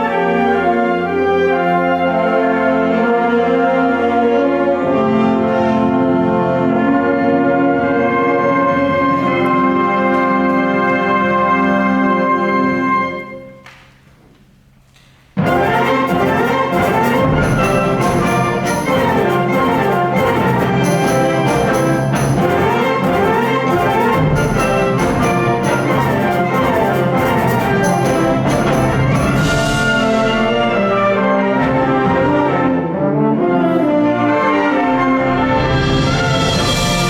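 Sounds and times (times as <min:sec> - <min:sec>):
wind band playing: 0:00.0 - 0:13.6, 0:15.4 - 0:37.0.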